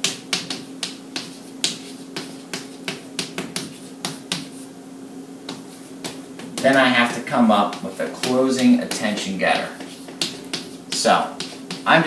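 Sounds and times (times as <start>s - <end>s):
chalk tapping on chalkboard: 0.0s - 4.7s, 5.5s - 12.0s
faint steady hum: 0.0s - 12.0s.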